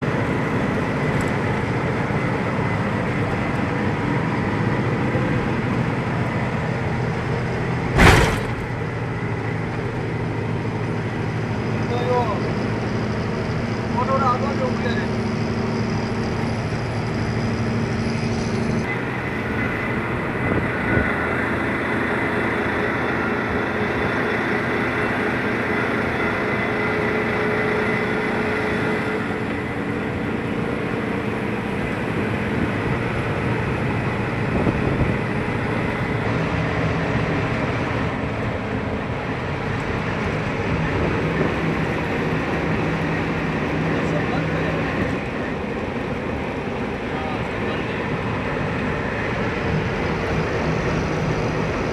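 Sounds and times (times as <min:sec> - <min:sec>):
road noise: 0:00.0 - 0:51.9
truck engine running: 0:00.0 - 0:51.9.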